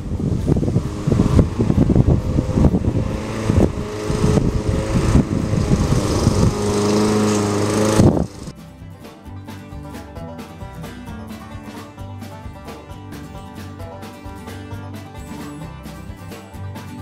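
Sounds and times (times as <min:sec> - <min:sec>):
lawn mower engine running unevenly: 0:00.0 - 0:17.0.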